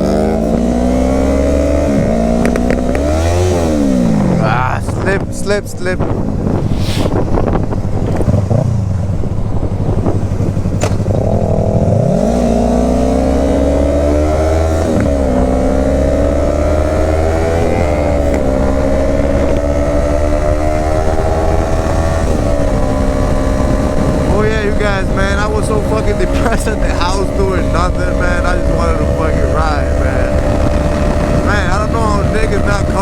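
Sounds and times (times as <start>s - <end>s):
motorcycle engine revving: 0.0s - 33.0s
rushing wind noise: 0.0s - 33.0s.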